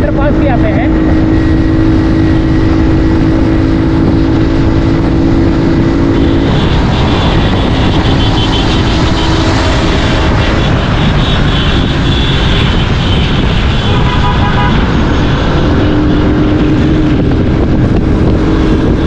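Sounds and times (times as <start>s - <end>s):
motorcycle engine running: 0.0s - 19.0s
wind noise on microphone: 0.0s - 19.0s.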